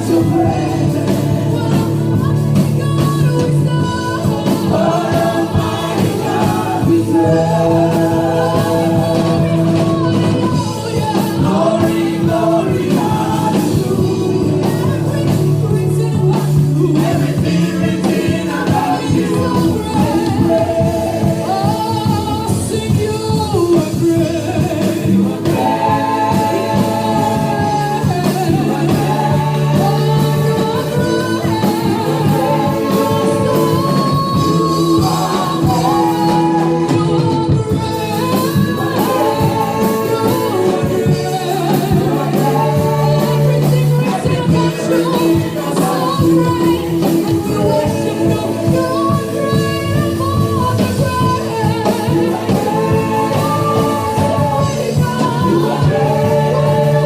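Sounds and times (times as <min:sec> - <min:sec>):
group singing gospel: 0:00.0 - 0:57.0
instrumental accompaniment with beat: 0:00.0 - 0:57.0.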